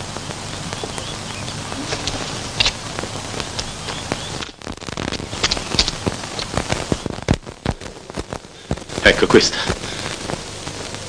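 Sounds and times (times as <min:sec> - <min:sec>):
clicks and crackles: 0:00.0 - 0:11.0
film soundtrack hiss: 0:00.0 - 0:11.0.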